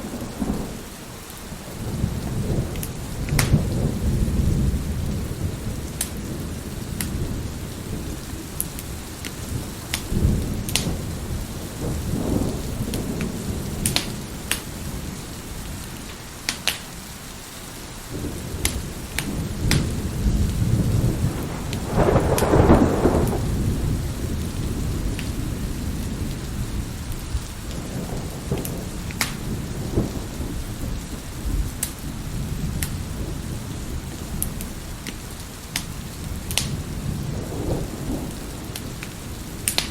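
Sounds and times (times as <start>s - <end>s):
rolling thunder: 0.0s - 16.0s, 18.0s - 39.9s
steady rain: 0.0s - 39.9s
wood fire crackling: 0.0s - 39.9s.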